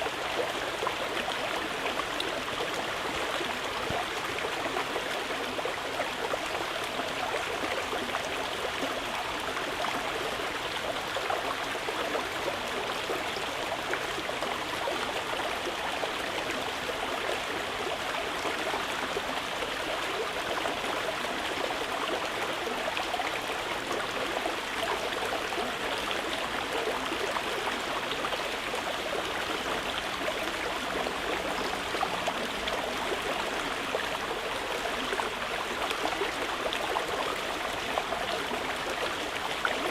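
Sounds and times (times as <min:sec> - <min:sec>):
water flowing in a stream: 0:00.0 - 0:39.9.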